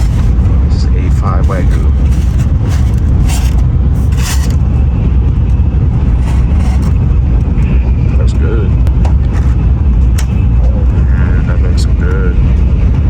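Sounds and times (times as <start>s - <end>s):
train rumbling at speed: 0.0s - 13.0s.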